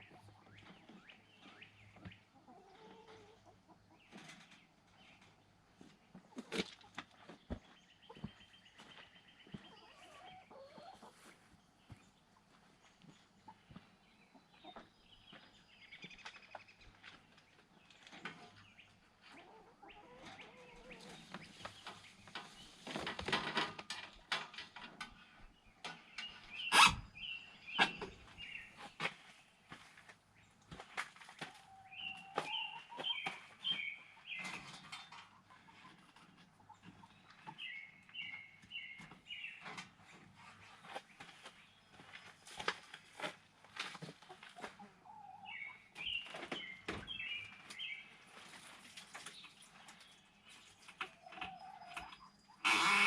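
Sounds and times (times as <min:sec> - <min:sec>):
birds chirping: 0:00.0 - 0:23.3, 0:24.1 - 0:53.0.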